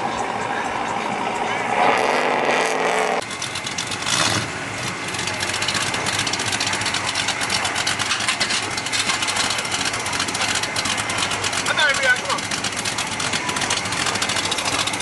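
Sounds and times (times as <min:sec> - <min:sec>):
car engine idling: 0:00.0 - 0:02.0, 0:03.1 - 0:15.0.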